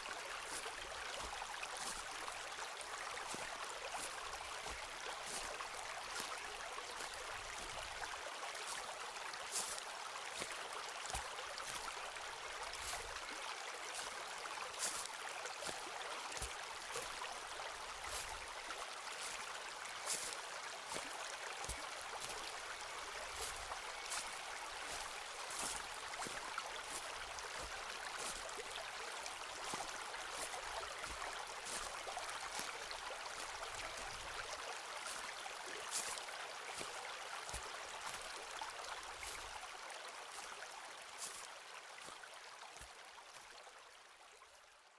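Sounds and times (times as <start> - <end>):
footsteps on forest path: 0.0 - 39.6, 40.4 - 43.4.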